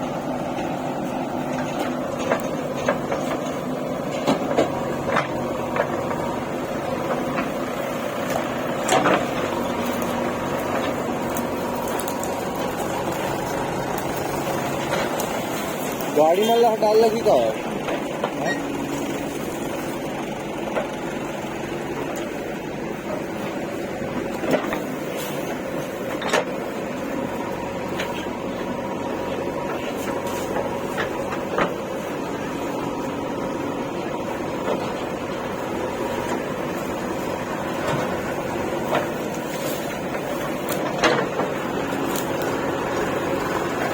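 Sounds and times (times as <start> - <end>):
machine motor running: 0.0 - 43.9.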